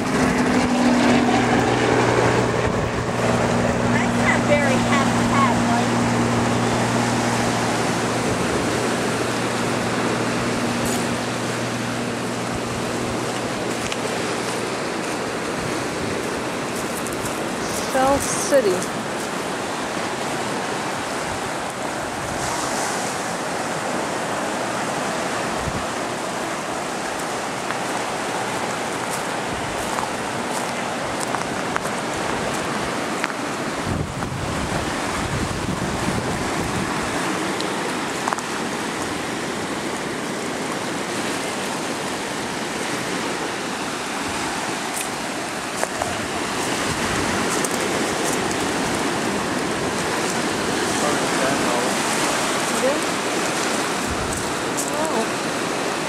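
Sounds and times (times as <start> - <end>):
small waves washing over pebbles: 0.0 - 56.0.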